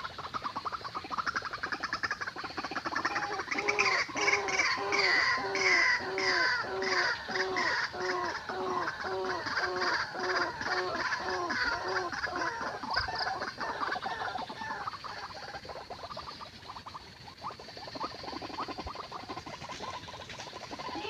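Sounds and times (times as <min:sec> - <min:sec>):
waterhen calling: 0:00.0 - 0:21.0.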